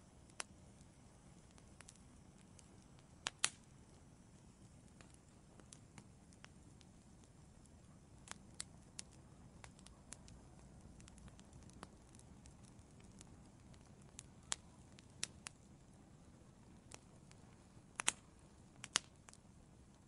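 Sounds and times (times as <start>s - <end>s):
faint steady low noise: 0.0s - 20.0s
wood fire crackling: 0.0s - 20.0s.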